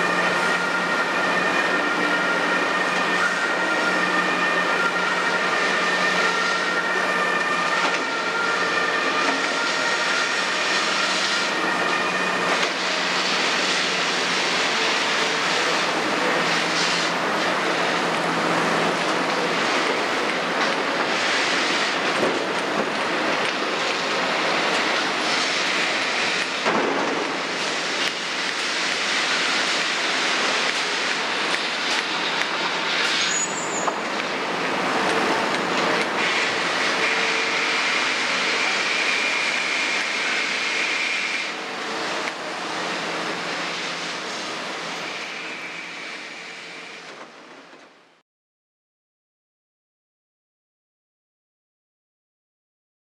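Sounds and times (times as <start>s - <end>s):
excavator diesel engine working: 0.0s - 45.8s.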